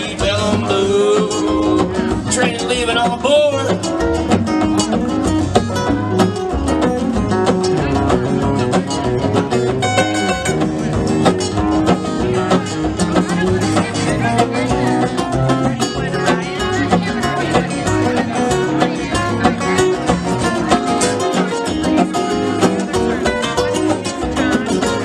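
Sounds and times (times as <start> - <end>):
acoustic guitar picking: 0.0 - 25.0
bass line: 0.0 - 25.0.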